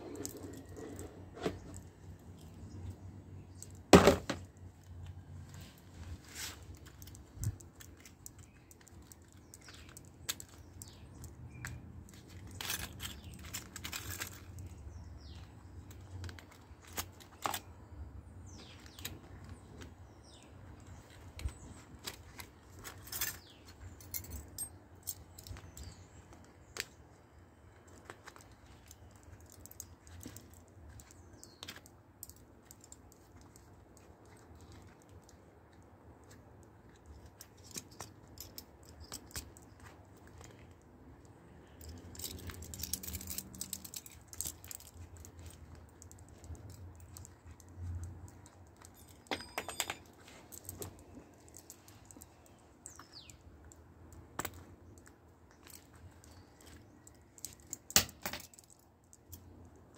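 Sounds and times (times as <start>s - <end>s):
small metal tools clicking and rattling: 0.0s - 27.0s, 27.7s - 59.9s.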